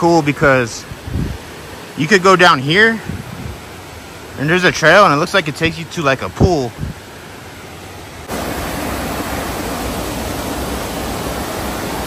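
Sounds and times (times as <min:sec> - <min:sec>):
rushing creek water: 0:00.0 - 0:12.0.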